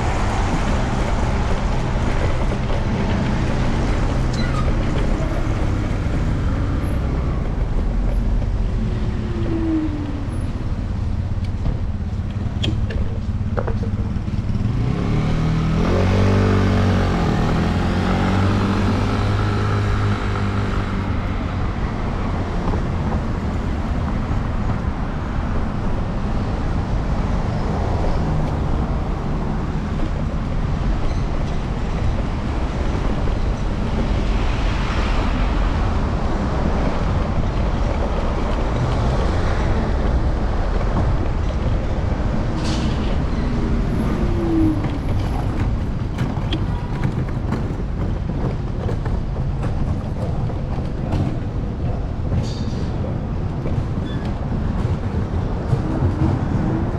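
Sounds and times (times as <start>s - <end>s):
city street traffic: 0.0s - 56.9s
wind and road rumble: 0.0s - 56.9s.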